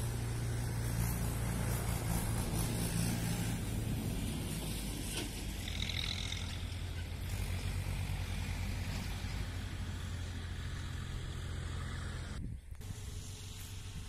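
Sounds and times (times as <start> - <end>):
low engine-like rumble: 0.0 - 14.0.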